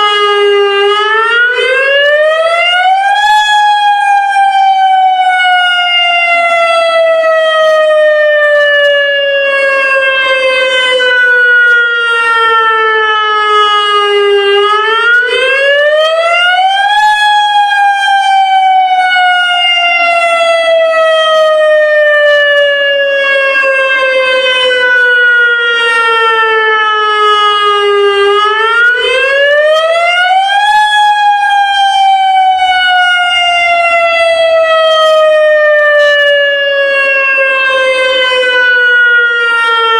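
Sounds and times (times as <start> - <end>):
electronic warning siren: 0.0 - 39.9.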